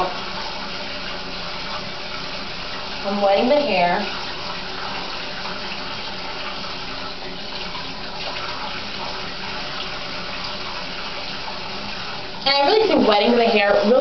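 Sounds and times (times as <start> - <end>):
sink tap running: 0.0 - 14.0.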